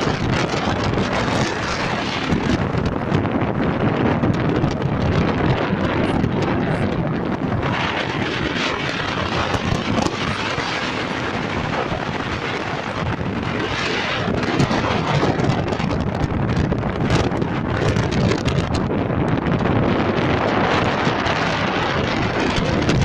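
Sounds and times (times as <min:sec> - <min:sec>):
gale-force wind howling: 0:00.0 - 0:23.0
wind buffeting microphone: 0:00.0 - 0:23.0.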